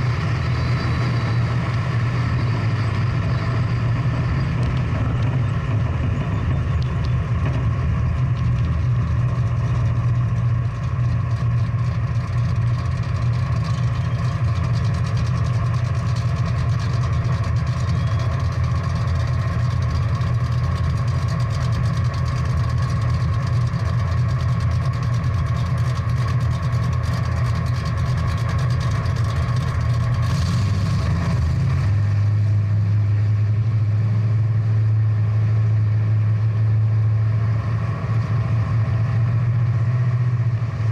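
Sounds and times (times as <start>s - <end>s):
muscle car engine idling: 0.0s - 37.8s.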